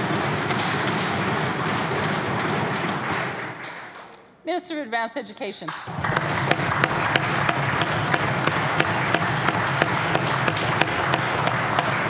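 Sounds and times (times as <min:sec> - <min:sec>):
crowd applauding: 0:00.0 - 0:04.0, 0:05.9 - 0:12.0.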